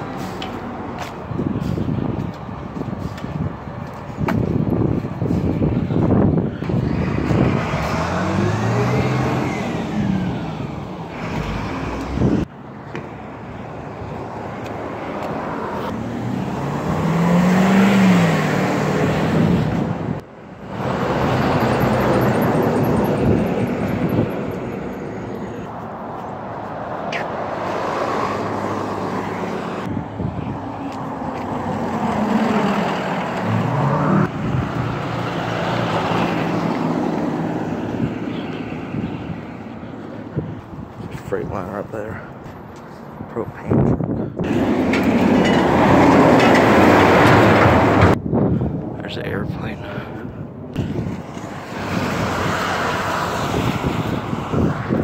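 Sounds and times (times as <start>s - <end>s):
tyre and road noise: 0.0s - 55.0s
vehicles driving past: 0.0s - 55.0s.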